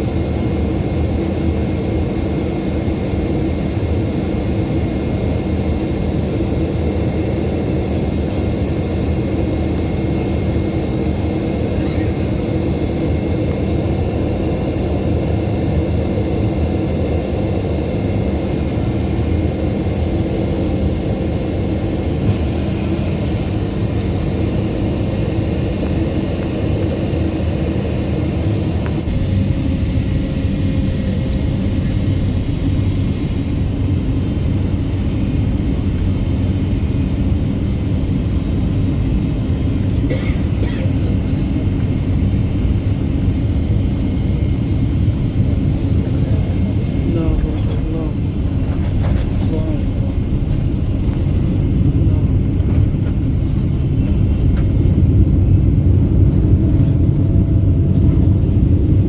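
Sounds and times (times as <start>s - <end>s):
faint steady whines: 0.0s - 59.0s
jet engine roar in cabin: 0.0s - 59.0s.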